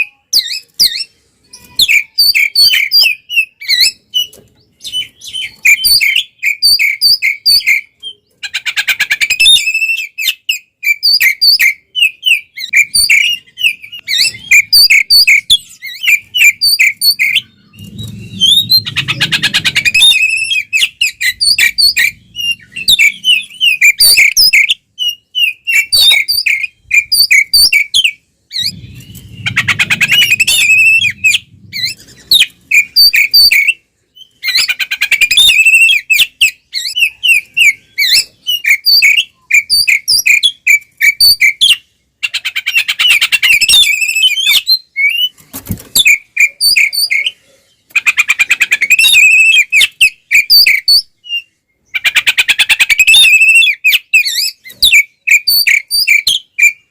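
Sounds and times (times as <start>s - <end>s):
magpie-robin singing: 0.0s - 56.9s.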